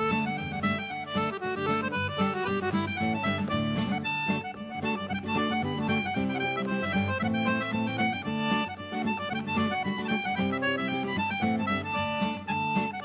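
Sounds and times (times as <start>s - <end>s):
accordion playing a fast reel: 0.0s - 13.0s.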